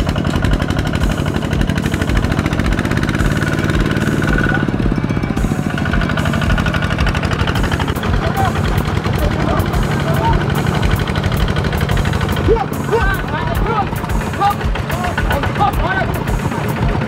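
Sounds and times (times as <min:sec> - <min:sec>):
diesel tractor engine chugging: 0:00.0 - 0:17.0.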